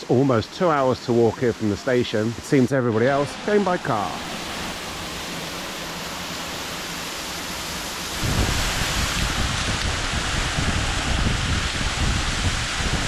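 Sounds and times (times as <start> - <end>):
waterfall rushing and splashing: 0.0 - 13.0.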